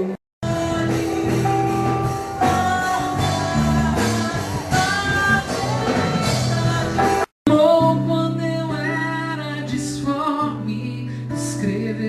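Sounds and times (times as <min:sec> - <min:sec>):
worship music with singing: 0:00.4 - 0:12.0.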